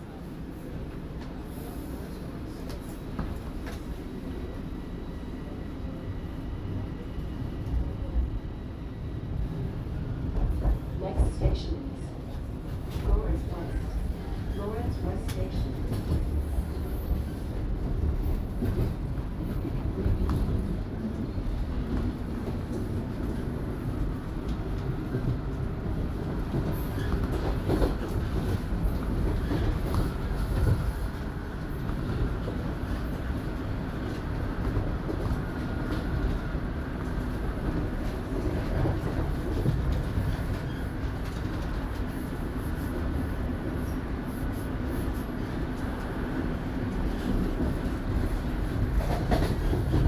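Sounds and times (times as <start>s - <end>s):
subway train rumbling: 0.0s - 50.0s.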